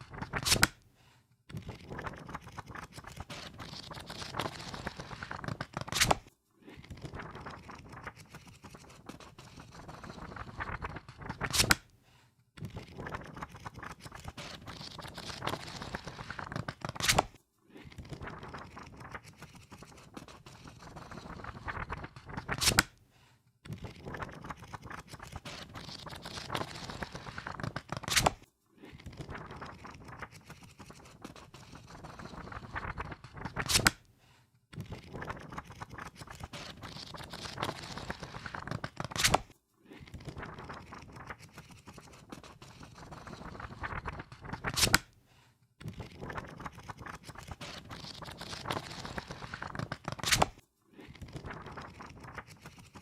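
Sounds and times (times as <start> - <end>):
book pages riffling: 0.0 - 0.8, 1.6 - 11.9, 12.7 - 23.0, 23.8 - 34.0, 34.8 - 45.1, 45.9 - 53.0.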